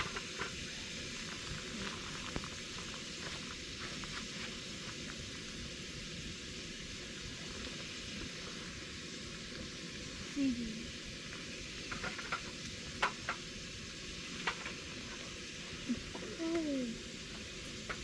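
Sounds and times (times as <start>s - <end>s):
fire crackles and pops: 0.0s - 18.0s
food sizzling over campfire: 0.0s - 18.0s.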